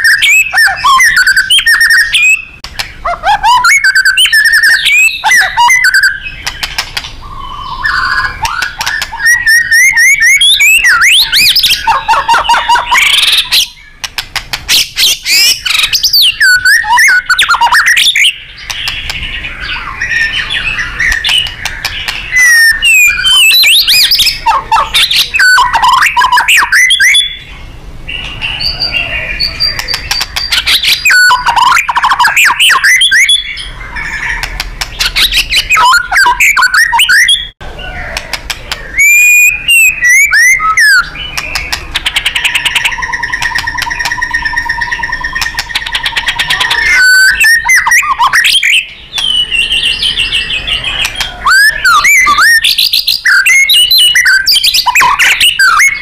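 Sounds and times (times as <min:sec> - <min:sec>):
bird chattering rattles: 0:00.0 - 0:27.4, 0:28.2 - 0:37.5, 0:38.1 - 0:56.0
bird singing whistles and trills: 0:00.0 - 0:56.0.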